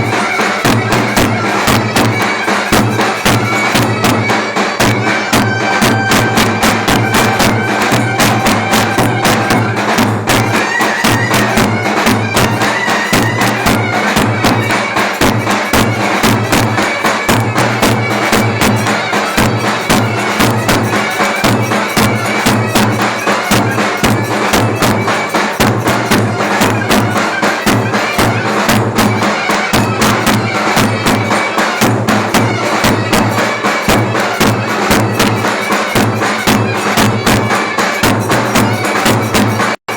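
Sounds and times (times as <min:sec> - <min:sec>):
clarinet playing folk dance tune: 0:00.0 - 0:39.9
fast drum beat: 0:00.0 - 0:39.9.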